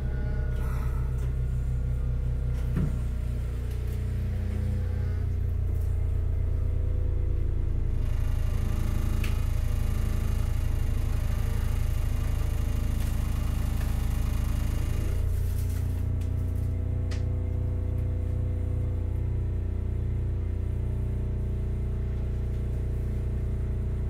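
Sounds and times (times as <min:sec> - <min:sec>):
steady low rumble: 0:00.0 - 0:24.0
tram inverter and motor whine: 0:00.0 - 0:24.0.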